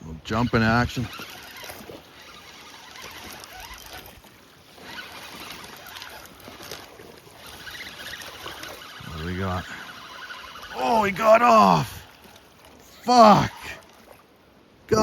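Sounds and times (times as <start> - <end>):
wind: 0.0 - 15.0
river water rushing: 0.9 - 15.0.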